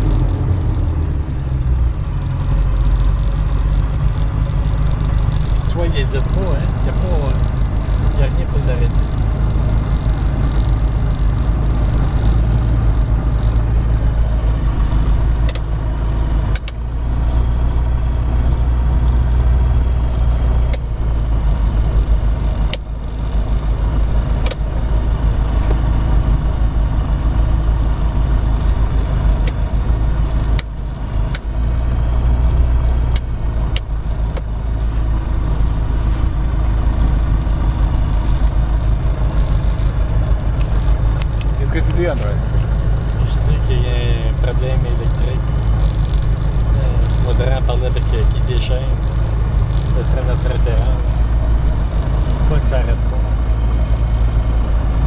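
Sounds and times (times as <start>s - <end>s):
piston aircraft engine running: 0.0s - 55.0s.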